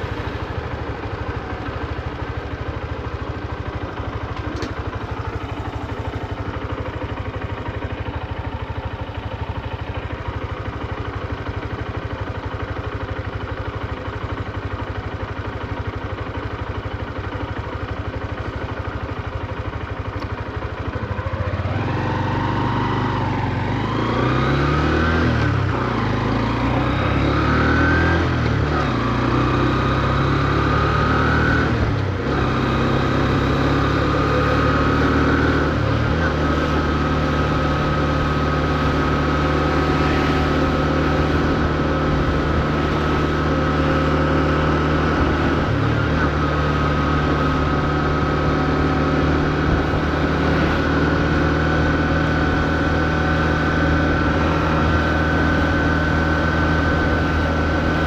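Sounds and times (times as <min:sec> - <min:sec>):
motorcycle shifting up through gears: 0:00.0 - 0:10.2, 0:19.5 - 0:58.0
motorcycle engine idling: 0:00.0 - 0:58.0.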